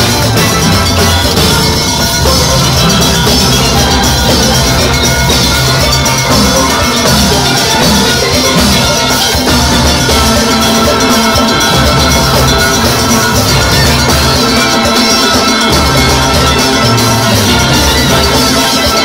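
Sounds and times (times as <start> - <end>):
steel band playing: 0.0 - 19.0.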